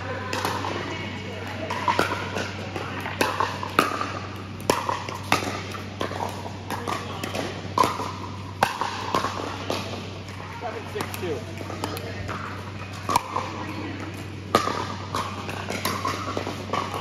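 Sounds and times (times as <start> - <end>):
paddles striking plastic ball: 1.7 - 17.0.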